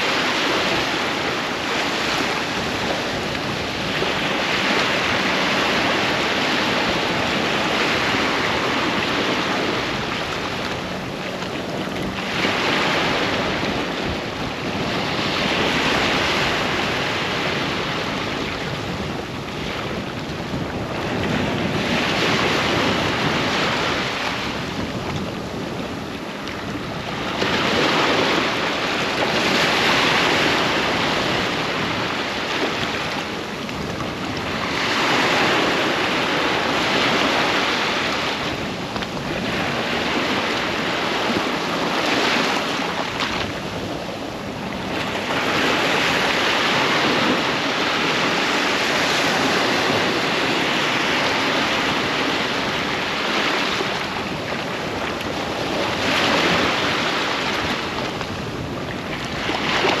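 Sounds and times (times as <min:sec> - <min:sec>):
ocean surf breaking on beach: 0:00.0 - 1:00.0.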